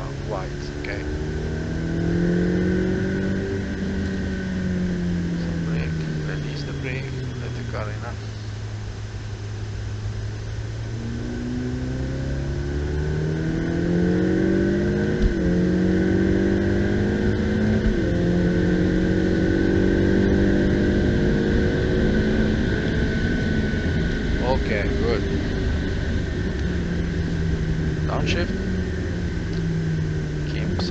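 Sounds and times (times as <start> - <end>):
car engine accelerating hard: 0.0 - 30.9
steady high whine: 0.0 - 30.9.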